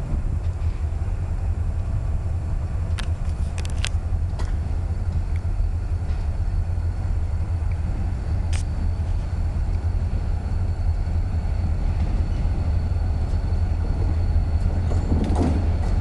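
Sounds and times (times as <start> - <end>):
distant train rumble: 0.0 - 16.0.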